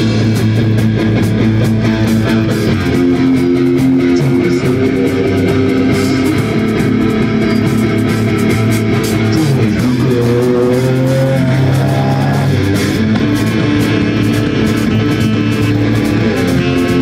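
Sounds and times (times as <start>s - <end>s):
bass guitar: 0.0s - 17.0s
drums: 0.0s - 17.0s
electric guitars: 0.0s - 17.0s.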